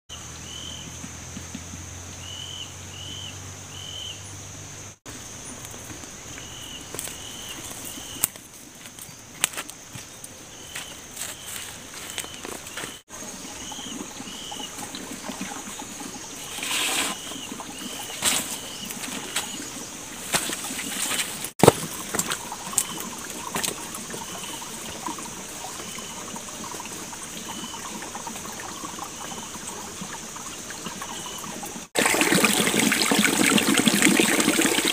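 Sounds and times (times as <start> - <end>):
stream trickling over stones: 5.1 - 34.9.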